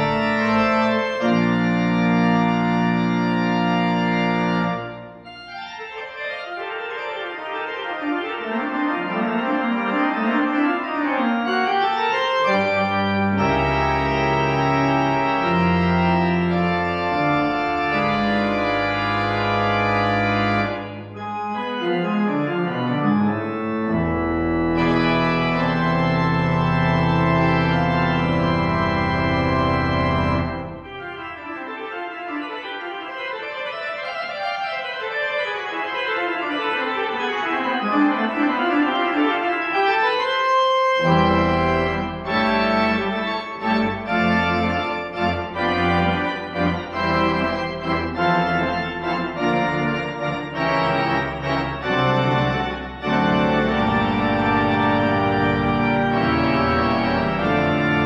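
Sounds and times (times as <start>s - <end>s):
organ playing chords: 0.0s - 58.0s.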